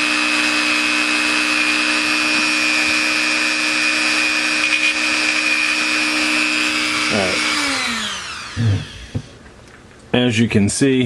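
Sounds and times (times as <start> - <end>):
rotary tool grinding plastic: 0.0 - 9.4.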